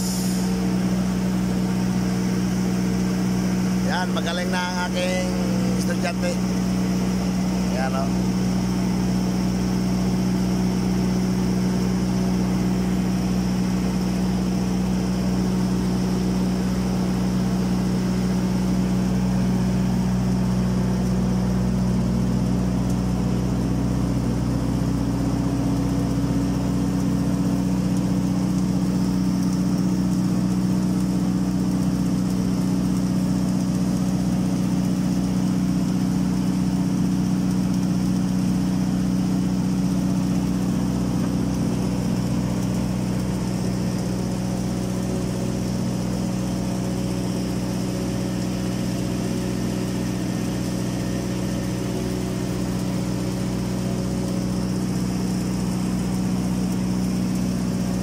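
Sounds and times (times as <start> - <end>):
welding carriage machine hum: 0.0 - 58.0.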